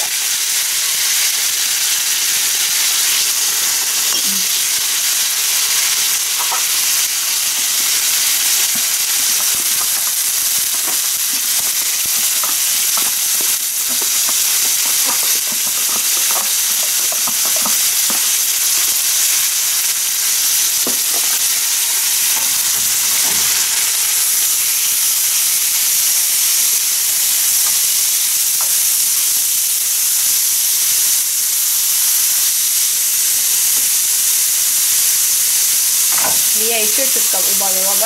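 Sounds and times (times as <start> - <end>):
vegetables sizzling in oil: 0.0 - 38.0.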